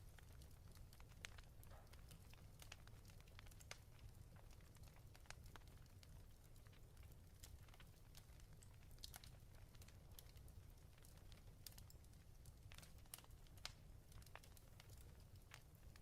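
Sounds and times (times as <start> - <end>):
fire crackling faintly: 0.0 - 16.0.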